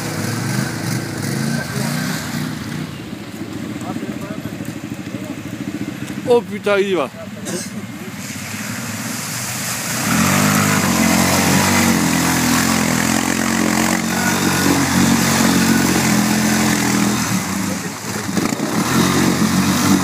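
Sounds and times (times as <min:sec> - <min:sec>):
atv engine revving: 0:00.0 - 0:20.0
mud and water spraying: 0:00.0 - 0:20.0
wheels churning through mud: 0:00.0 - 0:20.0.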